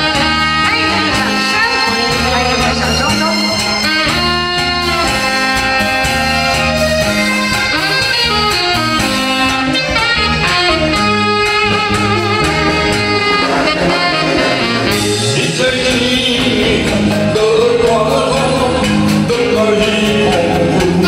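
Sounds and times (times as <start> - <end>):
saxophone melody: 0.0 - 17.4
live band playing: 0.0 - 21.0.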